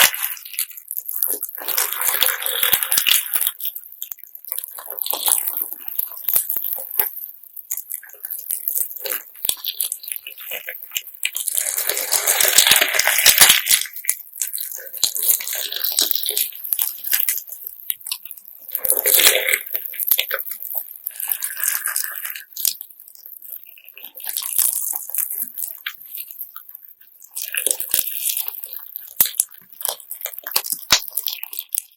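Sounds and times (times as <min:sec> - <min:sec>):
slime gritty crunching: 0:00.0 - 0:31.9.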